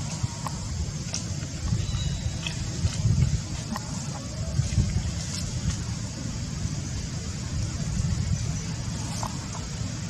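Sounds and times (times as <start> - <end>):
even hiss: 0.0 - 10.0
low outdoor rumble: 0.0 - 10.0.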